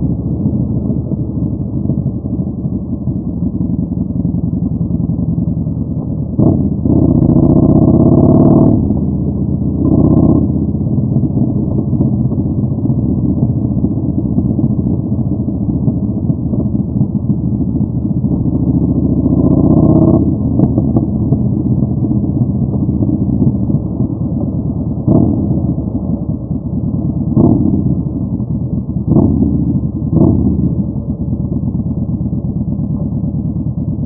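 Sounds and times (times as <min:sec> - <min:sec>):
motorcycle engine revving: 0:04.5 - 0:34.0.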